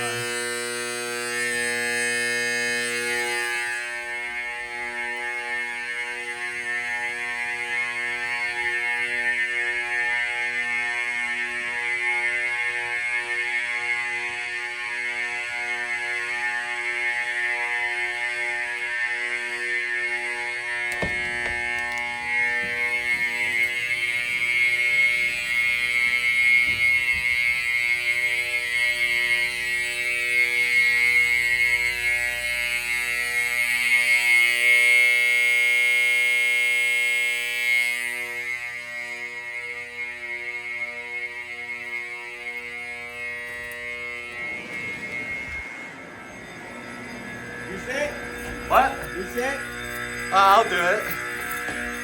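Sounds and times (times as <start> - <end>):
fire alarm horns buzzing: 0.0 - 52.0
lower steady tones: 0.0 - 52.0.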